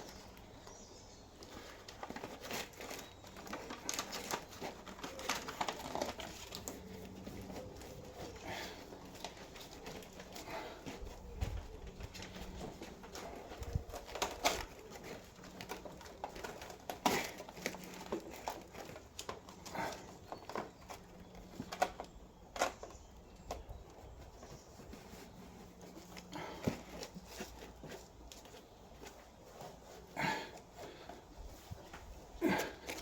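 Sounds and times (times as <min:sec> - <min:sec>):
sheet crinkling and rustling: 0:00.0 - 0:33.0.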